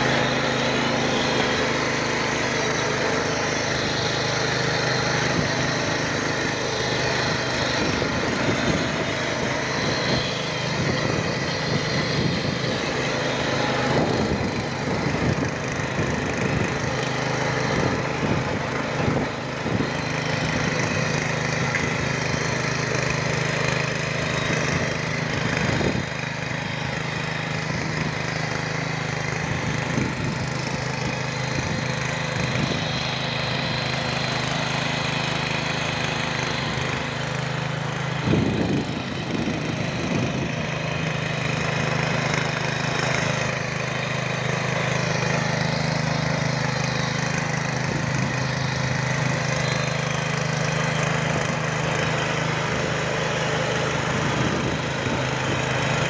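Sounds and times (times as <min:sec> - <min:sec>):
small engine running: 0:00.0 - 0:56.0
tines chopping through soil: 0:00.0 - 0:56.0.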